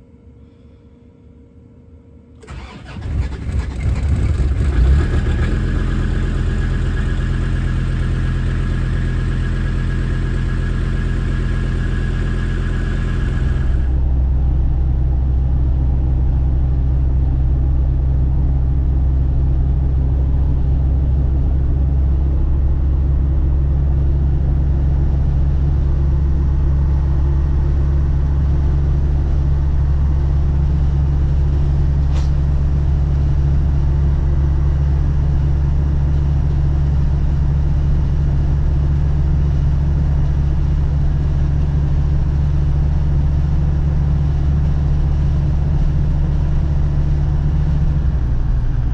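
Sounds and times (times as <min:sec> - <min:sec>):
diesel engine running steadily: 0:02.4 - 0:48.9.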